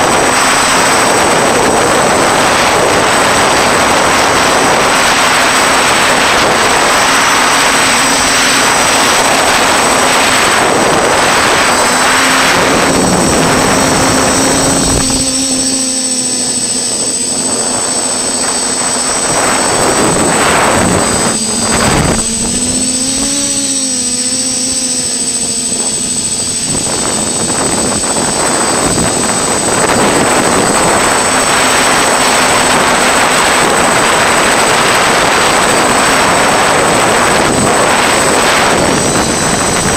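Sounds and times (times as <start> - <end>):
drone motors and propellers: 0.0 - 39.9
steady high-pitched whine: 0.0 - 39.9.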